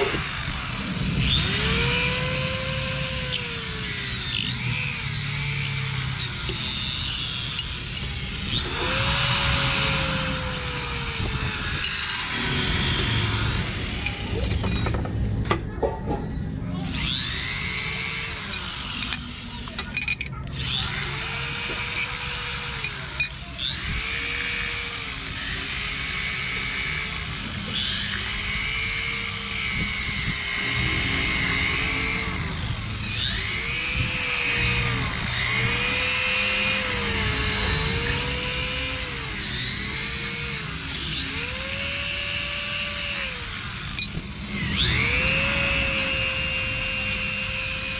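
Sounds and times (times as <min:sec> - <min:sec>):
electric drill whining: 0:00.0 - 0:15.2, 0:16.8 - 0:47.9.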